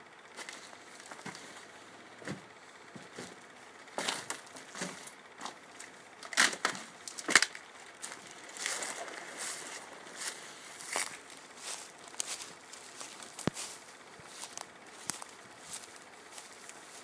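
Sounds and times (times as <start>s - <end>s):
footsteps crunching over rubble: 0.3s - 6.0s, 6.6s - 17.0s.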